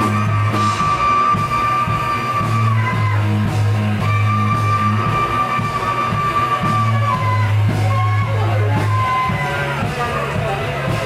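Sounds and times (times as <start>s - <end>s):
drum beats: 0.0s - 11.0s
held melody notes: 0.0s - 11.0s
low bass line: 0.0s - 11.0s.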